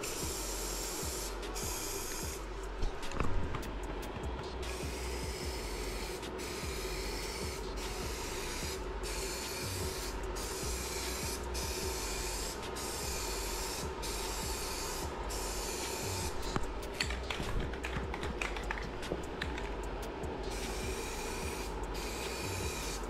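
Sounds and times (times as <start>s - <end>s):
spray paint can hissing: 0.0s - 3.2s, 4.5s - 19.3s, 19.9s - 23.0s.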